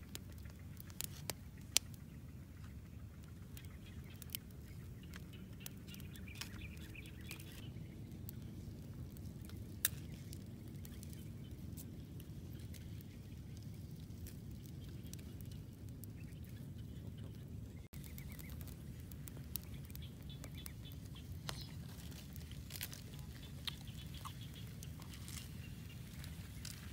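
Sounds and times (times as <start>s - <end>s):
fire sharp pops: 0.0s - 26.9s
wood fire crackling: 0.0s - 26.9s.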